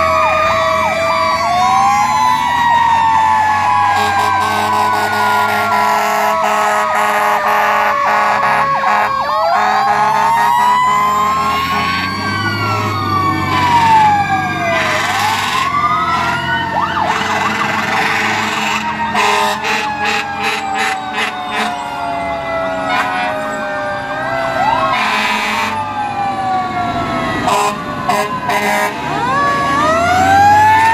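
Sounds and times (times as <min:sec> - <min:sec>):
fire truck sirens wailing: 0:00.0 - 0:30.9.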